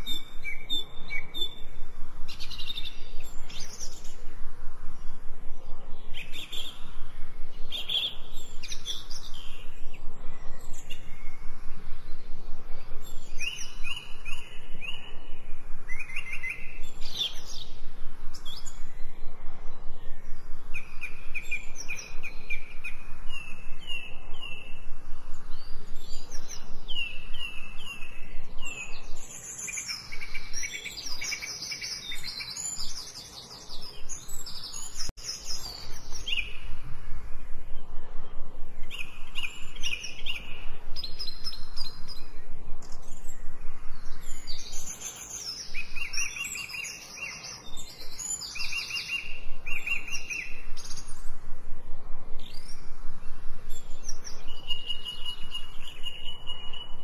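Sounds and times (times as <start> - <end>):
birds singing and chirping: 0.0 - 57.0
steady background hiss: 0.0 - 57.0.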